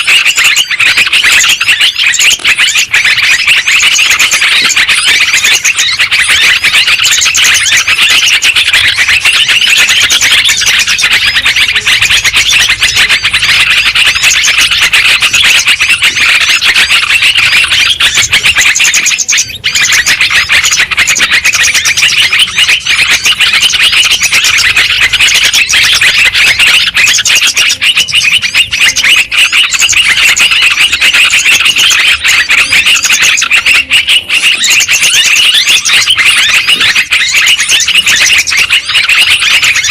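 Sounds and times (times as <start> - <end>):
bird chattering and chirping: 0.0 - 39.9.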